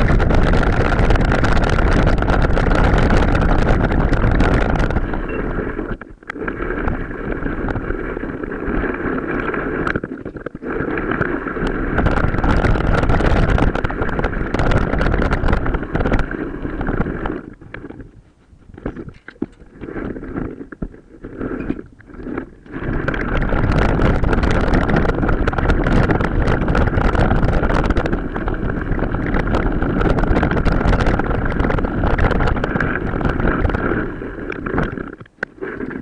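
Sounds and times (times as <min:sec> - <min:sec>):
bike rattling and clicking: 0:00.0 - 0:36.0
wind buffeting microphone: 0:00.0 - 0:36.0.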